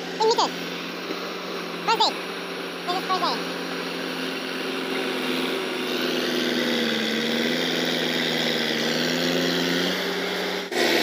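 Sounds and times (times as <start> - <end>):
bulldozer blade pushing earth: 0.0 - 11.0
bulldozer diesel engine running: 0.0 - 11.0.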